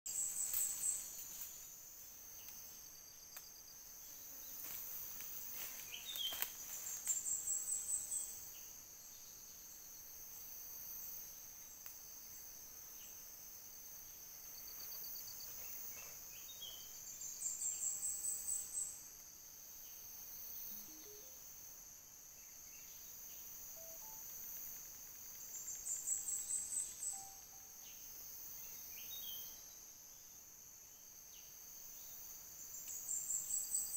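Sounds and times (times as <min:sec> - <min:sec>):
crickets and insects chirping: 0:00.1 - 0:33.9.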